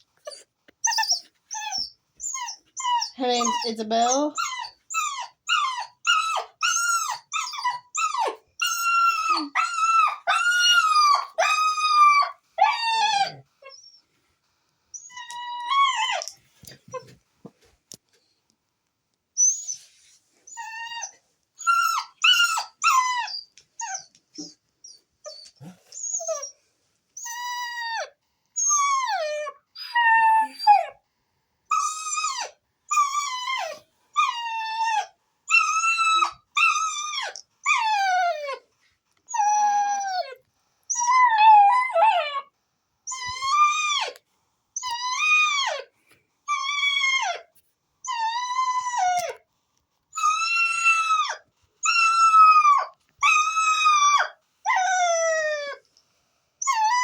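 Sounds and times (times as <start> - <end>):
puppy howling and whining: 0.2 - 14.0, 14.9 - 17.2, 20.5 - 26.6, 27.2 - 31.0, 31.7 - 38.7, 39.3 - 44.2, 44.8 - 45.9, 46.5 - 49.4, 50.1 - 55.8, 56.6 - 57.0.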